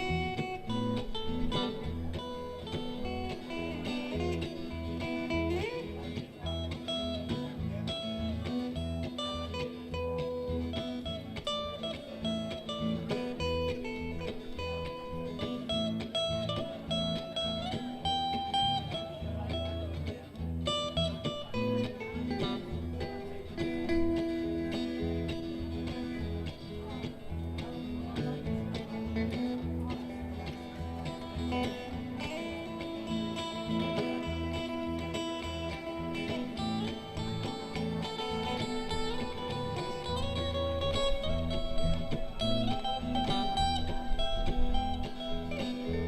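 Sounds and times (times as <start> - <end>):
bass guitar: 0.0 - 46.0
lead guitar bending notes: 0.0 - 46.0.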